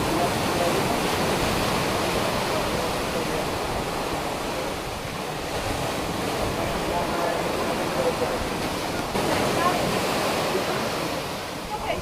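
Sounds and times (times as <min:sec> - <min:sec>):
ocean waves: 0:00.0 - 0:12.0.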